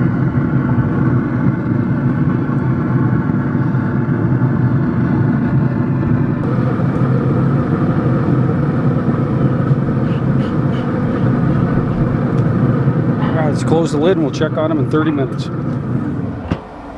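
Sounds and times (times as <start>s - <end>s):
mechanical hum and rumble: 0.0s - 16.9s.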